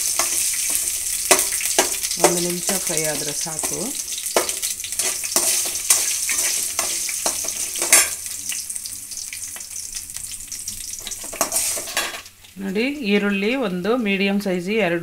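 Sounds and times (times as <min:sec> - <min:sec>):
potatoes sizzling in oil: 0:00.0 - 0:13.7.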